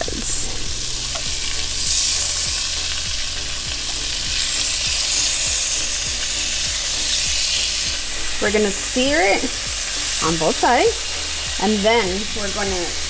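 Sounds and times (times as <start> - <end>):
fish fillets sizzling in a pan: 0.0 - 13.0.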